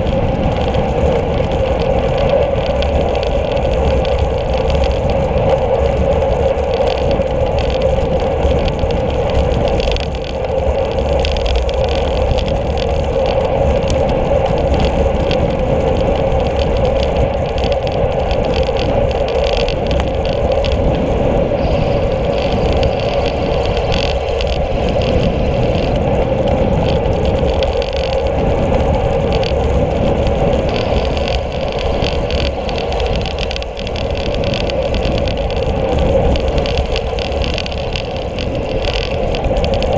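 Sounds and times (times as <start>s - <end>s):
bike tyres rolling on road: 0.0s - 39.9s
wind rumble on microphone: 0.0s - 39.9s.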